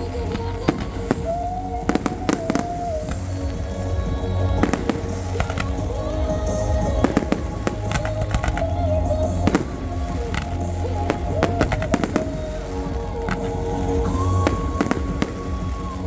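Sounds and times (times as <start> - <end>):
fireworks bangs and crackles: 0.0 - 16.0
music with held notes: 0.0 - 16.0.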